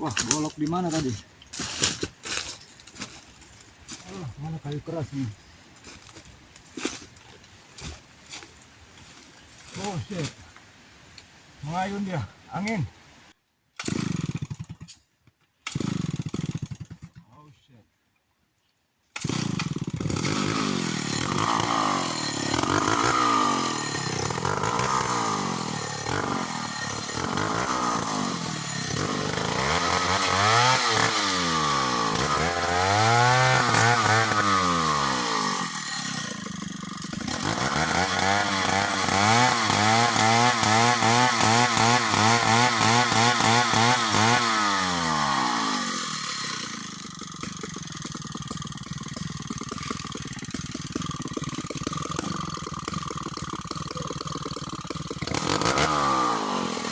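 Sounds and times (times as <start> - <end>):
chainsaw cutting wood: 0.0 - 5.0, 5.8 - 10.4, 13.8 - 17.2, 19.1 - 56.9.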